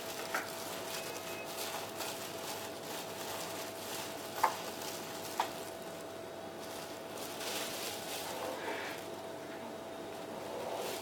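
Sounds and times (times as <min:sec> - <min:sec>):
breadcrumbs rustling in a bowl: 0:00.0 - 0:09.2, 0:10.2 - 0:11.0.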